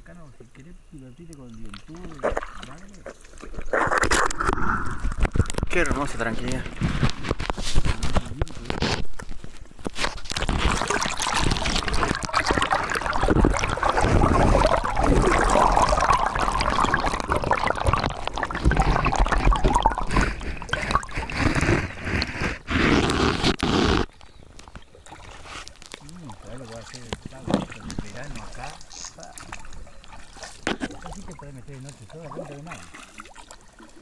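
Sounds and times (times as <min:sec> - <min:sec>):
water gurgling and splashing: 0:01.2 - 0:34.0.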